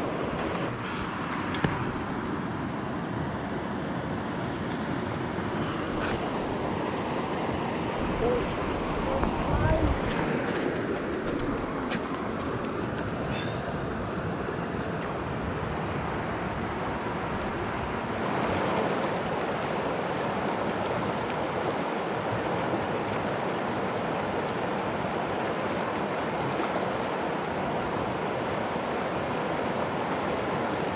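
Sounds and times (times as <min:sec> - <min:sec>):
river water rushing over rocks: 0:00.0 - 0:30.9.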